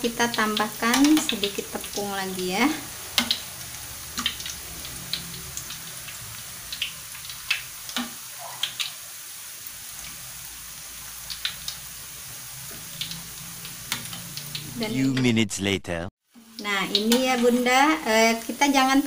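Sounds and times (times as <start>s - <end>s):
food sizzling in hot oil: 0.0s - 14.9s, 16.2s - 19.0s.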